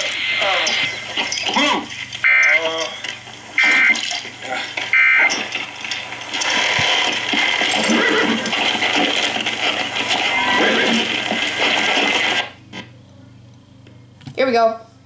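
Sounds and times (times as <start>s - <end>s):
harsh digital buzzes: 0.0s - 12.6s
steady hiss: 0.0s - 12.6s.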